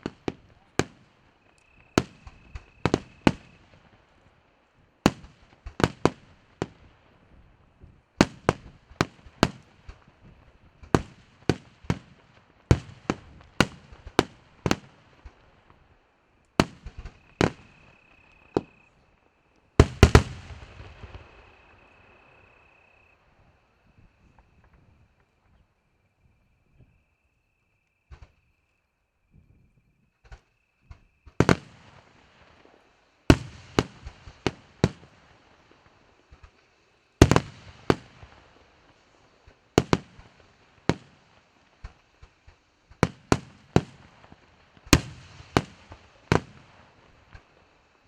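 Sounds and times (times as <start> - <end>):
fireworks bangs: 0.0 - 4.3, 5.0 - 15.8, 16.6 - 19.0, 19.7 - 25.3, 31.2 - 48.0
fireworks crackling: 0.0 - 22.4, 31.3 - 48.0.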